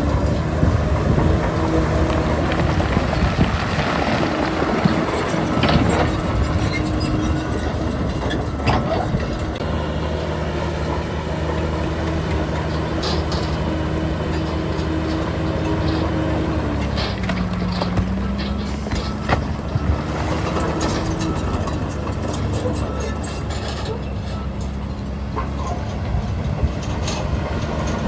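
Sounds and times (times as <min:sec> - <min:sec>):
heavy machinery diesel engine drone: 0:00.0 - 0:28.0.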